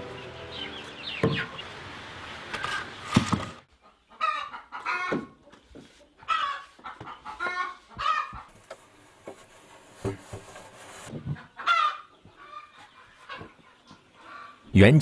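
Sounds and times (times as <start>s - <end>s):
chickens clucking: 0.0s - 8.5s, 11.1s - 14.7s.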